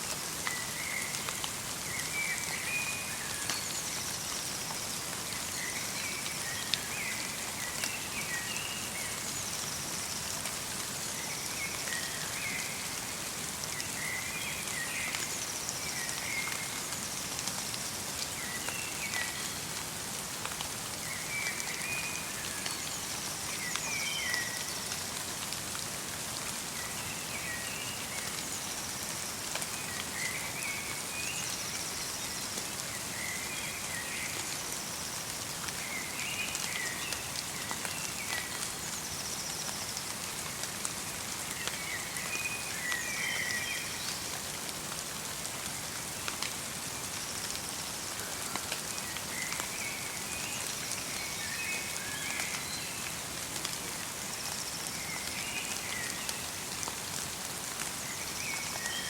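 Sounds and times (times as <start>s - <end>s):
rain and snow pattering: 0.0s - 59.0s.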